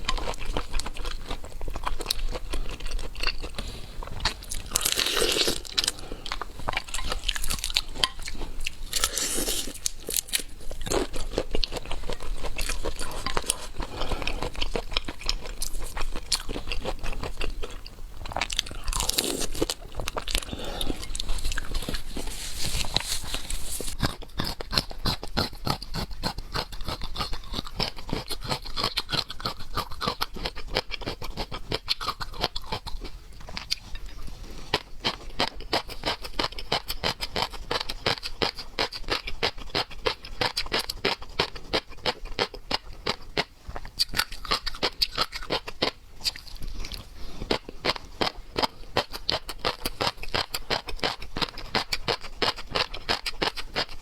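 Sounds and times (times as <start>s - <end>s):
person chewing seafood: 0.0s - 54.0s.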